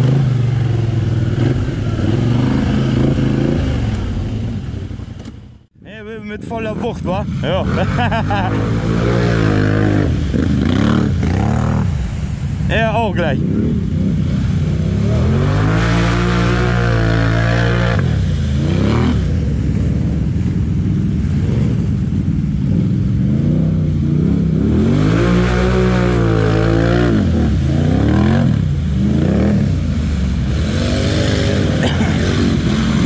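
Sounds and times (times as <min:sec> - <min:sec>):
quad bike engines revving: 0:00.0 - 0:05.6, 0:06.3 - 0:33.0.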